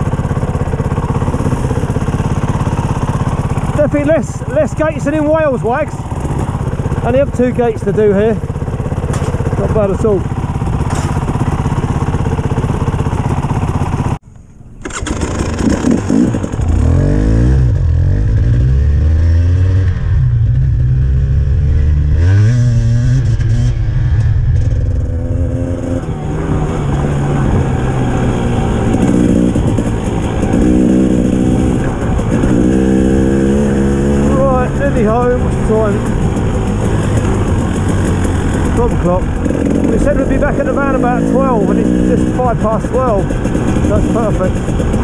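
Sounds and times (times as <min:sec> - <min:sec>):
motorcycle engine revving: 0:00.0 - 0:14.2, 0:14.8 - 0:45.0.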